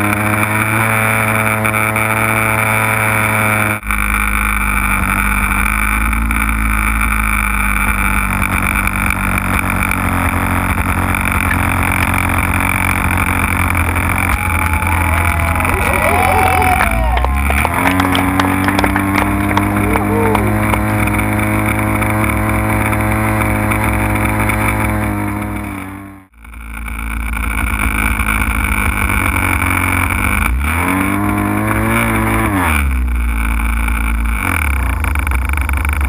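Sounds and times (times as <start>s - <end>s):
model plane motor running: 0.0s - 36.0s.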